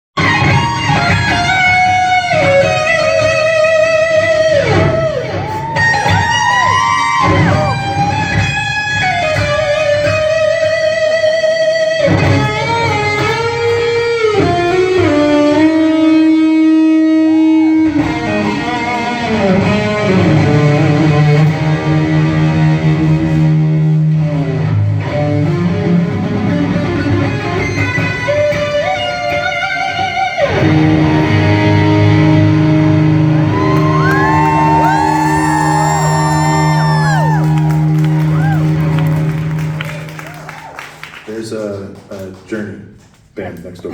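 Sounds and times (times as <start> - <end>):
electric guitar long bent notes: 0.2 - 40.7
rock band playing: 0.2 - 40.8.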